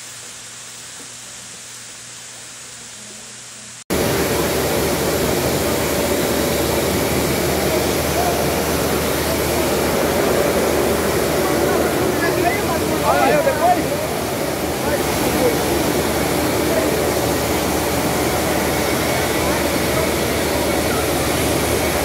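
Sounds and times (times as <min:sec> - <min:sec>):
heavy rain hissing: 0:00.0 - 0:22.0
floodwater rushing: 0:03.9 - 0:22.0.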